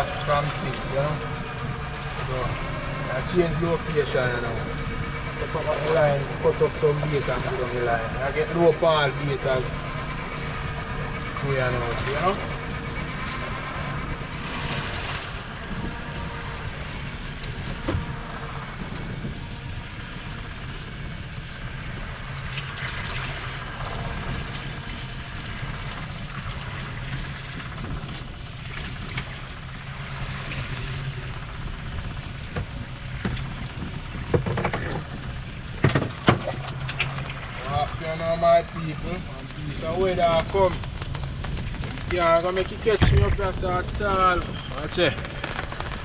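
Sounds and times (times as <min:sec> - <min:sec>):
boat engine humming: 0:00.0 - 0:46.0
water noise: 0:00.0 - 0:46.0
wind: 0:00.0 - 0:46.0.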